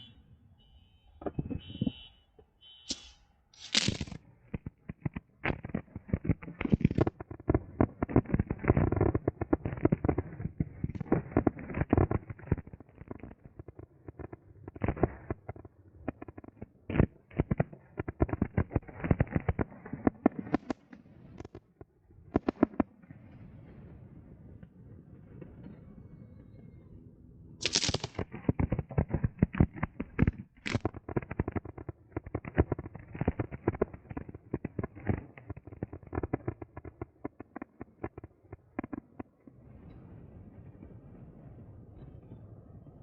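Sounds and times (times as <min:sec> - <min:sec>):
fireworks bangs and cracks: 0:02.9 - 0:26.5, 0:27.6 - 0:42.7.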